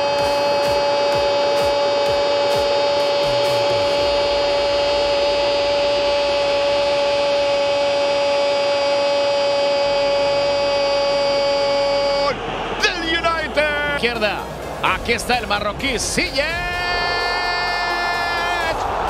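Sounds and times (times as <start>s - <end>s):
steady droning tone: 0.0s - 19.0s.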